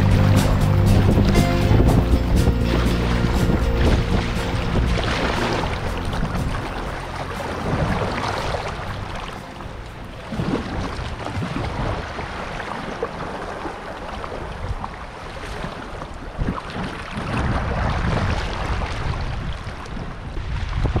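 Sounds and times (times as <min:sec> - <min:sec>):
wind buffeting microphone: 0:00.0 - 0:15.2, 0:15.8 - 0:21.0
paddle strokes in water: 0:00.0 - 0:21.0
river water rushing and splashing: 0:00.0 - 0:21.0.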